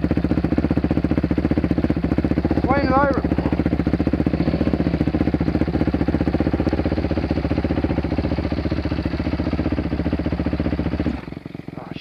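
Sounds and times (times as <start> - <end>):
dirt bike engine idling: 0.0 - 12.0.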